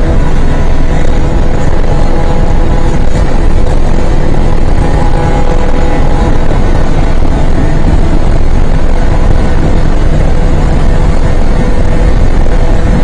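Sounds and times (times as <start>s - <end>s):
faint engine drone: 0.0s - 13.0s
road rumble: 0.0s - 13.0s
wind buffeting: 0.0s - 13.0s.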